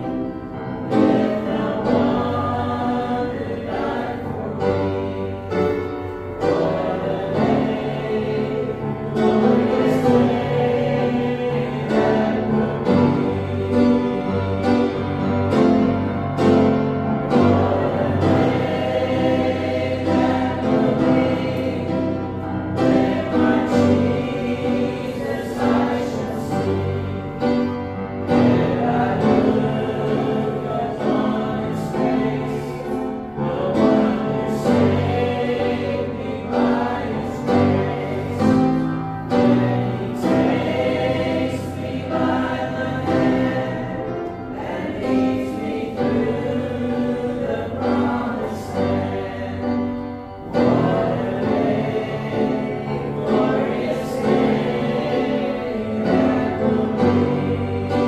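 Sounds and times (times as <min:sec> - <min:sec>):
instrumental accompaniment: 0:00.0 - 0:58.0
voices singing a gospel hymn: 0:00.0 - 0:58.0.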